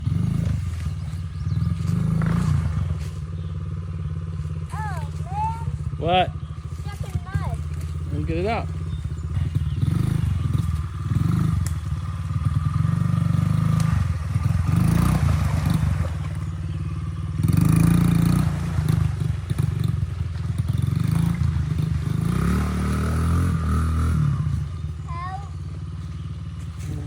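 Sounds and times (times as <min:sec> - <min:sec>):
small motorbike engine revving: 0:00.0 - 0:27.0.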